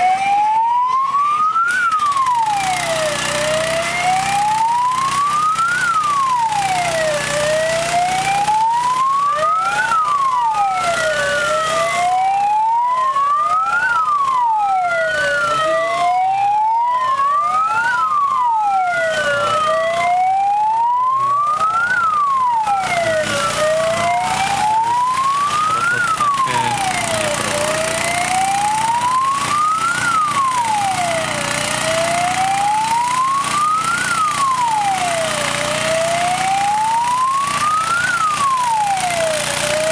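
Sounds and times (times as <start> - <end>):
fire engine siren wailing: 0.0 - 39.9
second siren wailing: 0.0 - 39.9.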